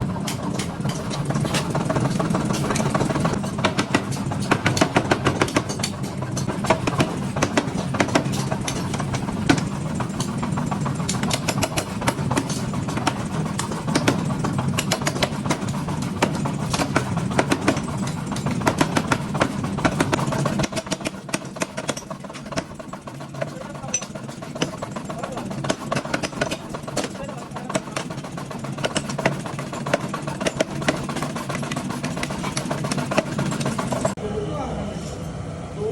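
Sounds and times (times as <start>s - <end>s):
hammer striking hot steel: 0.1s - 34.2s.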